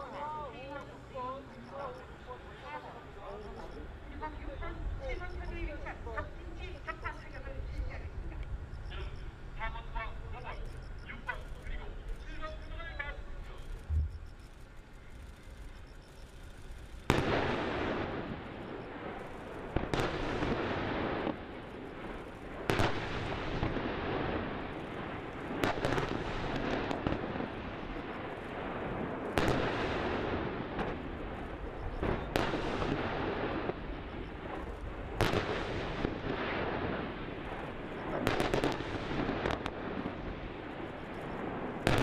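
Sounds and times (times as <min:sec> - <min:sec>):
rolling rumble: 0:03.1 - 0:42.0.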